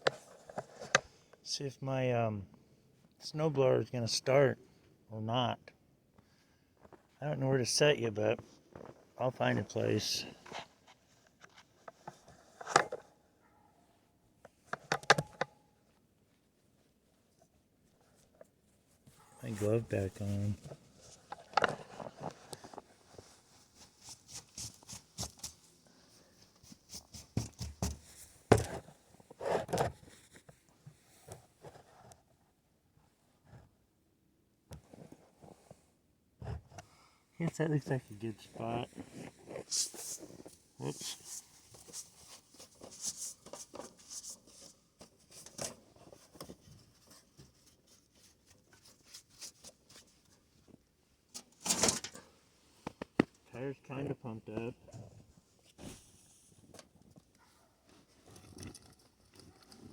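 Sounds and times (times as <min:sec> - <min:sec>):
faint rustles and scrapes: 0:00.0 - 0:01.2, 0:08.4 - 0:14.8, 0:15.8 - 0:33.8, 0:34.8 - 0:59.9.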